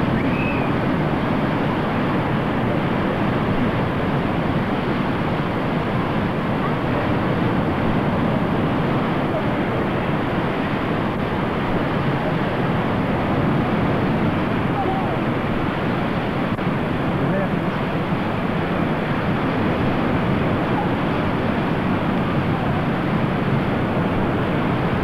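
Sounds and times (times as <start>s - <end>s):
sea surf: 0.0s - 25.0s
wind: 0.0s - 25.0s.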